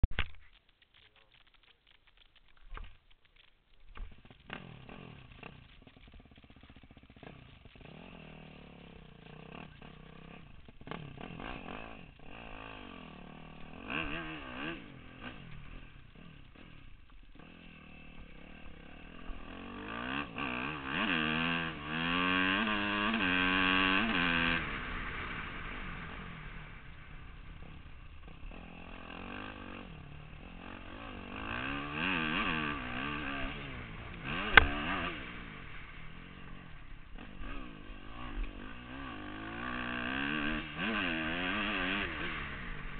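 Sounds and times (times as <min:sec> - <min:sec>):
motorcycle engine revving: 0:03.3 - 0:42.9.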